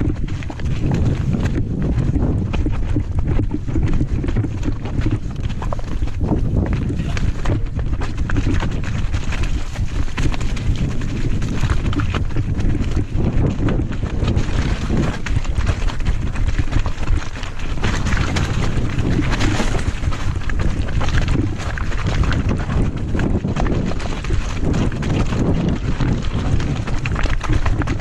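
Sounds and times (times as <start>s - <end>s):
bike rattling: 0.0s - 28.0s
tyres on dirt and rock: 0.0s - 28.0s
wind over microphone: 0.0s - 28.0s.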